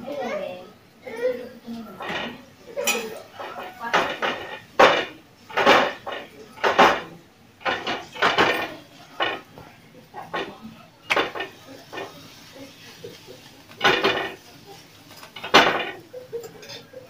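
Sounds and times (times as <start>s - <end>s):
kitchen utensils knocking and scraping: 1.8s - 12.4s, 13.0s - 17.0s.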